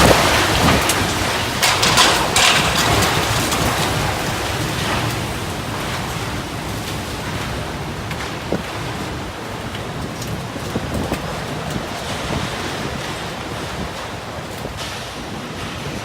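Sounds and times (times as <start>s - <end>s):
driving rain: 0.0s - 16.0s
storm wind: 0.0s - 16.0s.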